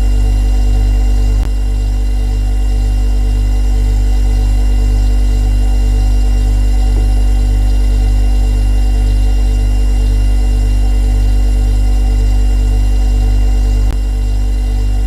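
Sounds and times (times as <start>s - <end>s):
refrigerator compressor humming: 0.0s - 15.0s.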